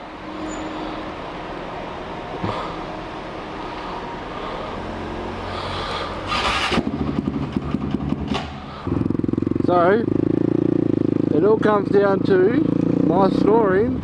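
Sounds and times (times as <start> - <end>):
motorcycle engine: 0.0 - 14.0
street traffic: 0.0 - 14.0.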